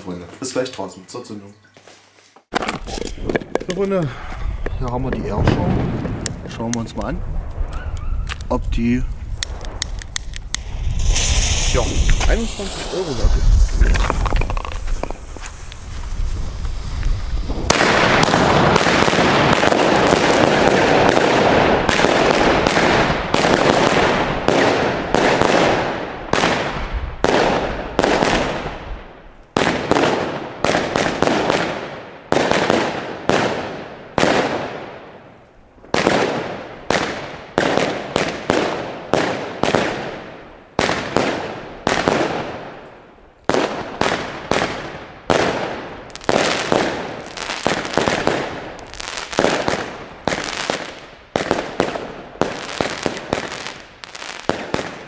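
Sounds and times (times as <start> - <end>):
fireworks firing: 4.9 - 35.2, 35.8 - 55.0.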